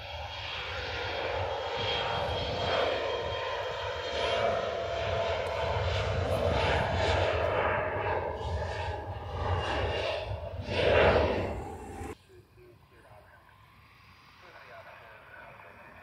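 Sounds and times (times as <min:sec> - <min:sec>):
aircraft engines running: 0:00.0 - 0:16.0.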